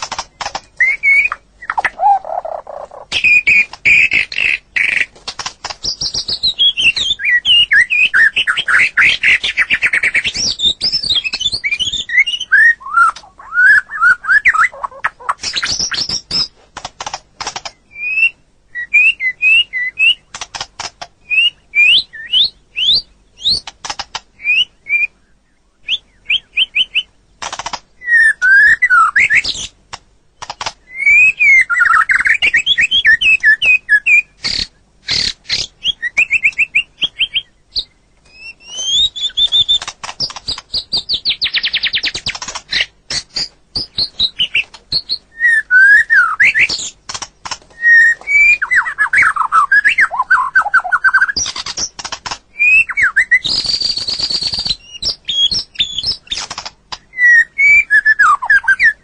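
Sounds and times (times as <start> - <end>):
bird singing whistles and trills: 0.3 - 5.1, 5.8 - 16.5, 17.6 - 20.4, 21.2 - 23.7, 24.4 - 27.2, 28.0 - 29.8, 30.4 - 47.0, 47.7 - 59.0.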